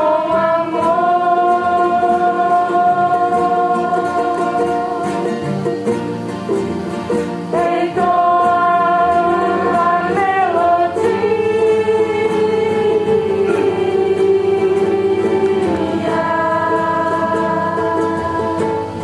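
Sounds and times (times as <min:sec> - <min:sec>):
voices singing long notes: 0:00.0 - 0:06.0, 0:07.1 - 0:19.0.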